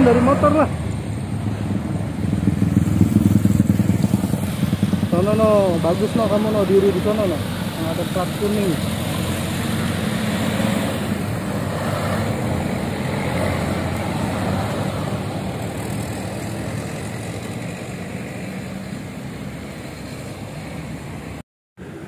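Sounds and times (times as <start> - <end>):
vehicle engines passing: 0.0 - 22.0.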